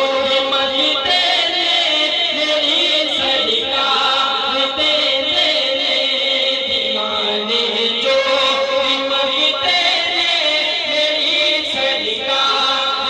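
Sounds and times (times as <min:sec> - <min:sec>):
men singing devotional song: 0:00.0 - 0:13.0.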